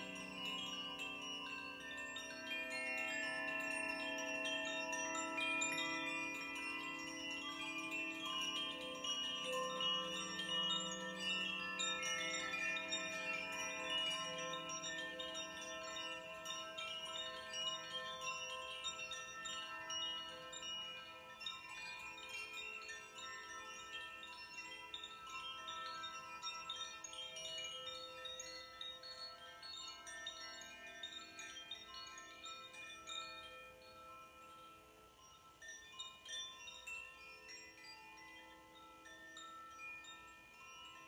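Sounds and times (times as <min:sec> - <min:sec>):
bamboo chime shimmering: 0:00.0 - 0:41.0
lower ringing tones: 0:00.0 - 0:41.0.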